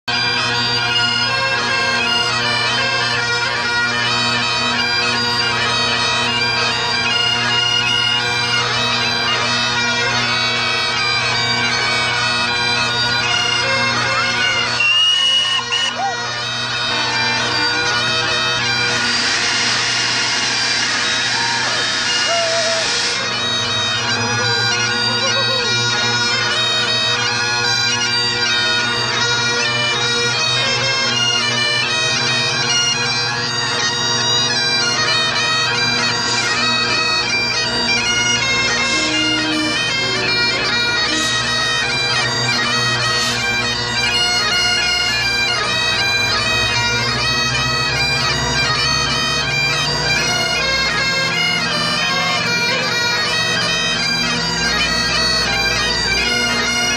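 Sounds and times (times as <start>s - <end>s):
bagpipes playing: 0.0s - 56.9s.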